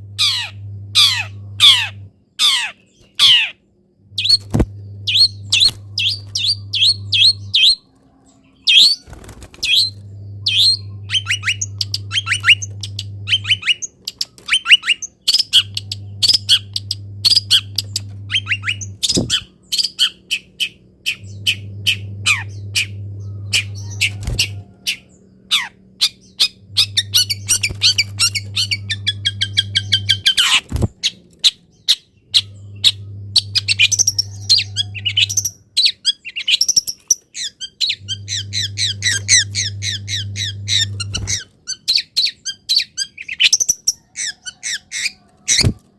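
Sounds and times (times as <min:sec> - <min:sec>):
low hum: 0:00.0 - 0:35.8, 0:37.6 - 0:41.6
bird chirping and calling: 0:00.2 - 0:03.6, 0:04.2 - 0:45.9.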